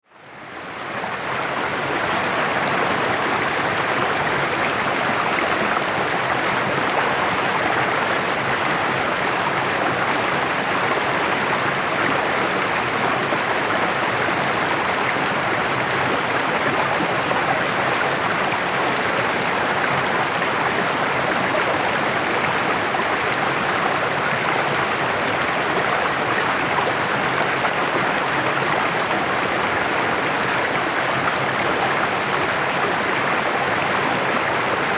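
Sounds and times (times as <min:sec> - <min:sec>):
creek babbling over stones: 0:00.3 - 0:34.9.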